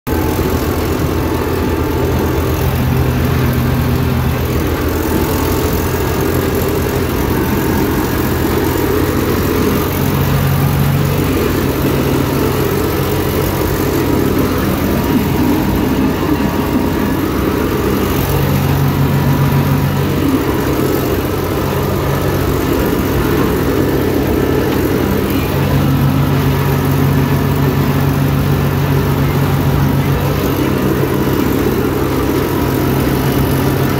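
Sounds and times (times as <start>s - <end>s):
tractor diesel engine running: 0.0s - 33.9s
whirring and rushing of chopper: 0.1s - 33.9s.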